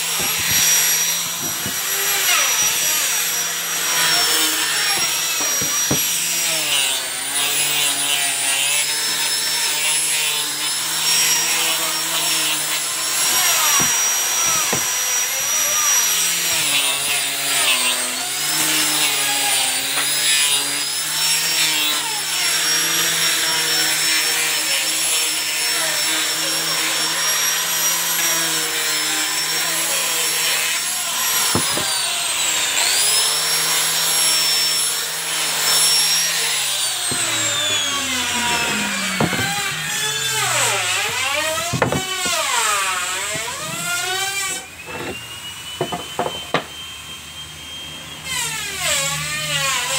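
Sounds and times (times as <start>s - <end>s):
hand grinder sanding wood: 0.0s - 46.9s.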